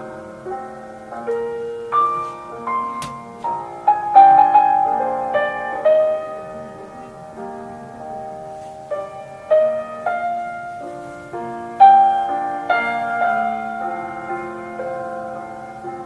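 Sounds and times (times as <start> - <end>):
slow classical piano melody: 0.0 - 16.0.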